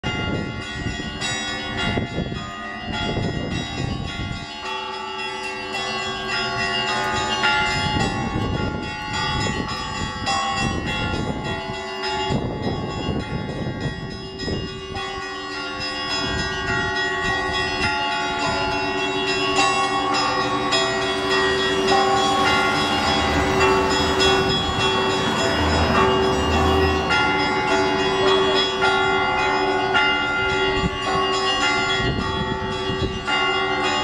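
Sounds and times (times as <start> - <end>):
church bells ringing: 0.0 - 34.0
deep bell ringing: 0.0 - 34.0.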